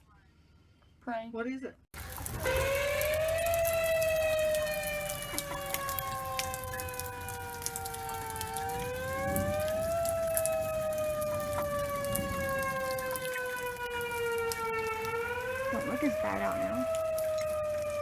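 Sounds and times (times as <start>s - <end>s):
tornado warning siren wailing: 2.0s - 18.0s.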